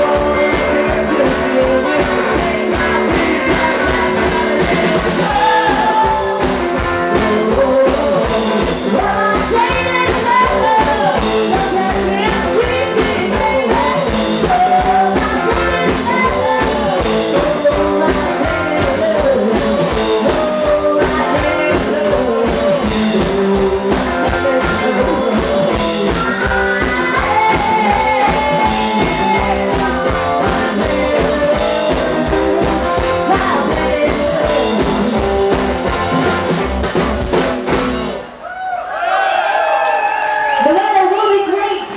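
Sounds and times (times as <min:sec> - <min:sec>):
woman singing: 0:00.0 - 0:36.3
rock and roll band playing: 0:00.0 - 0:38.8.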